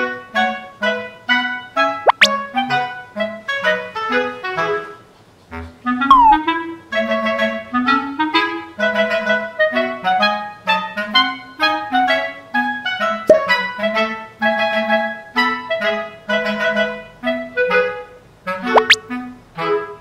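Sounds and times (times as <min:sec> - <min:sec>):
clarinet melody: 0:00.1 - 0:04.9, 0:05.8 - 0:20.0.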